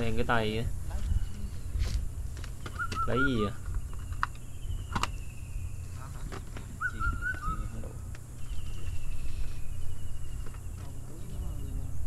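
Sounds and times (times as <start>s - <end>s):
bird calls: 0.9s - 12.0s.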